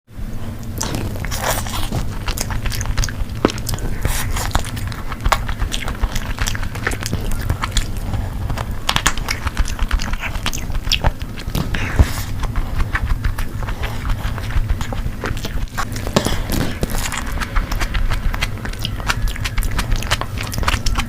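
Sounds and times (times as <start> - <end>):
low steady hum: 0.1 - 21.0
person chewing food: 0.3 - 21.0.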